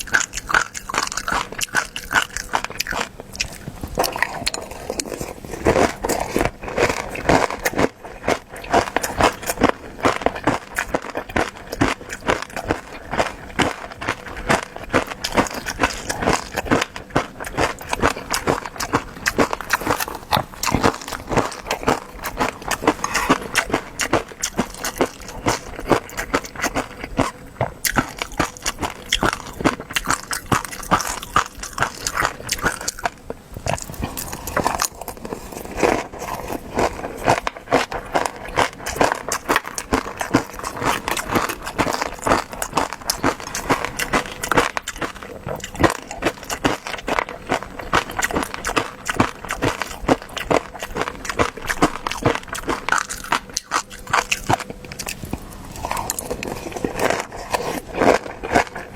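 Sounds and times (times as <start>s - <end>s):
person chewing food: 0.0s - 58.9s.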